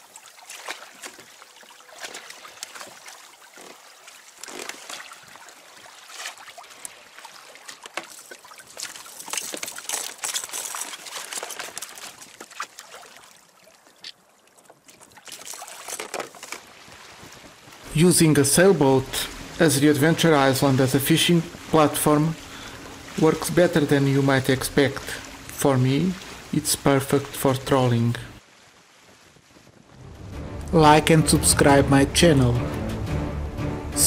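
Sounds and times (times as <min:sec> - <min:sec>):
small waves slapping: 0:00.0 - 0:30.3
water rushing along a hull: 0:00.0 - 0:32.7.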